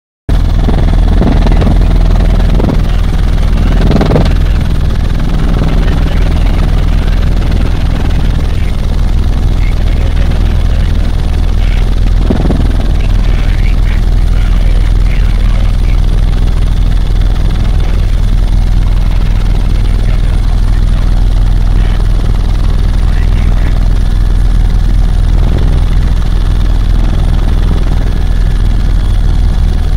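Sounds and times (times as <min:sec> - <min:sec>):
helicopter rotor and engine drone: 0:00.3 - 0:29.9.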